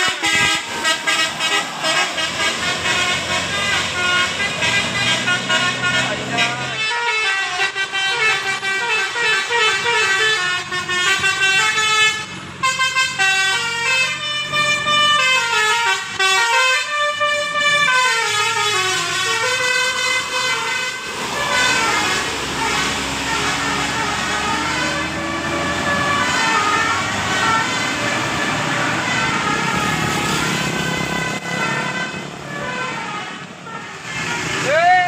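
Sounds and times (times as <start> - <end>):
musical bus horn melody: 0.0 - 35.0
rising horn wail: 0.0 - 35.0.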